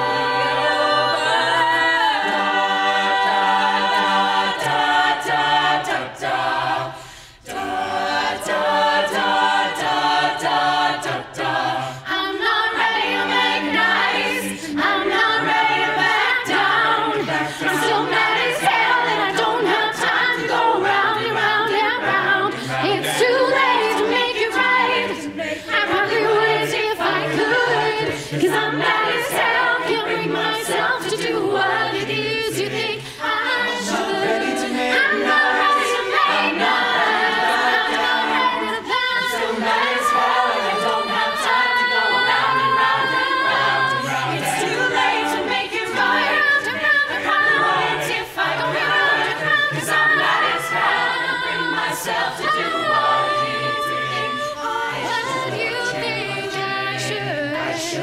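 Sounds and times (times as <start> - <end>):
a cappella group singing in harmony: 0.0 - 58.0.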